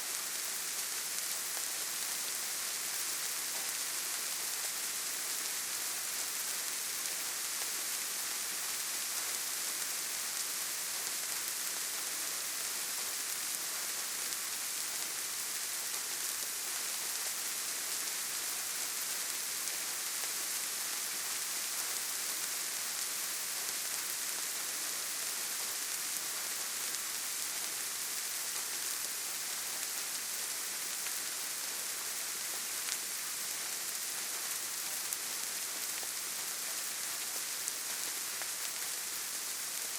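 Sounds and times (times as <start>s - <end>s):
rain pattering on leaves: 0.1s - 39.9s.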